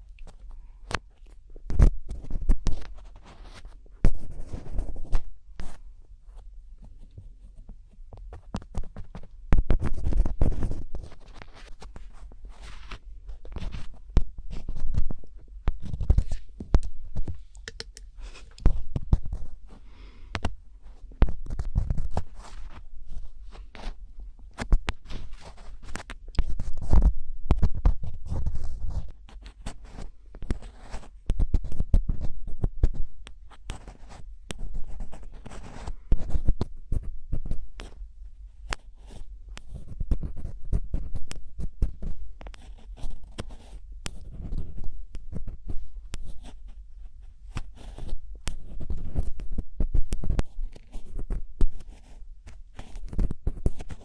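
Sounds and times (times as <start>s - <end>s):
scratchy strokes and clicks: 0.0s - 54.0s.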